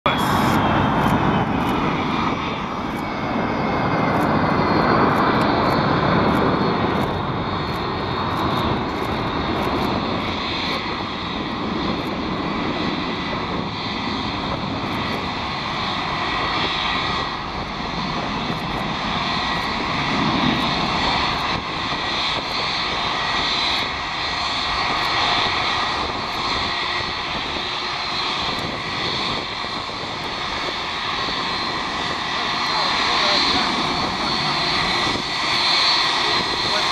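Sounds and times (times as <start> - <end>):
jet engines idling: 0.0 - 36.9.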